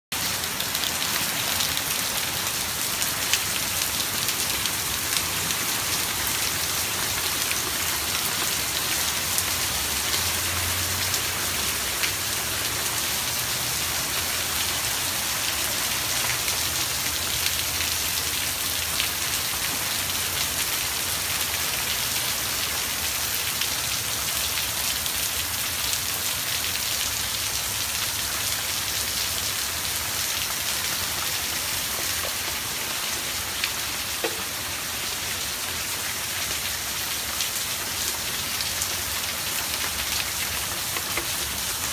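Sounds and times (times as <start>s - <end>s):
heavy rain on concrete and shrubs: 0.1s - 41.9s.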